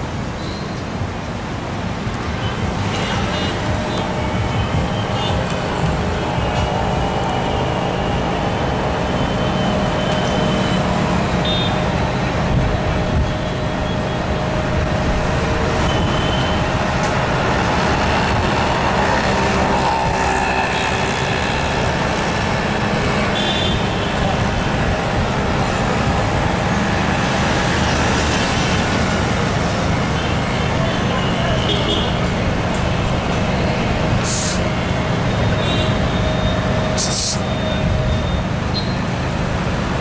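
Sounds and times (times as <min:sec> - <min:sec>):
street traffic noise: 0:00.0 - 0:40.0.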